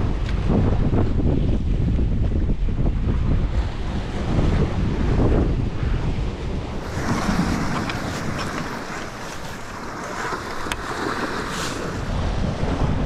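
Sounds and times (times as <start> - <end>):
sea surf on rocks: 0.0 - 13.0
wind buffeting microphone: 0.0 - 13.0.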